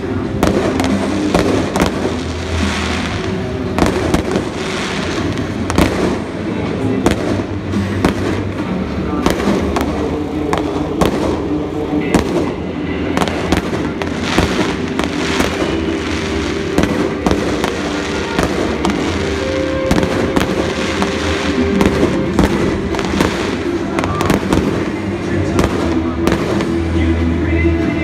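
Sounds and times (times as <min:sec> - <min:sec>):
fireworks bangs: 0:00.0 - 0:27.0
music playing: 0:00.0 - 0:28.0.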